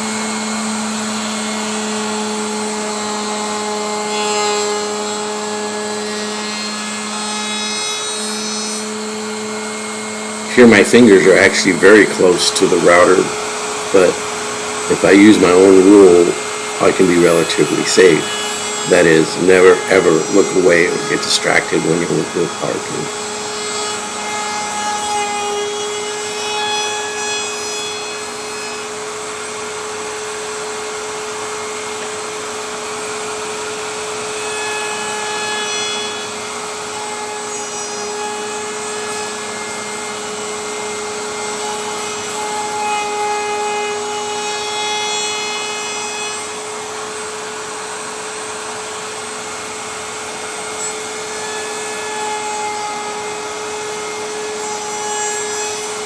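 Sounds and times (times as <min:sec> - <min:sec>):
electric router whining: 0:00.0 - 0:56.0.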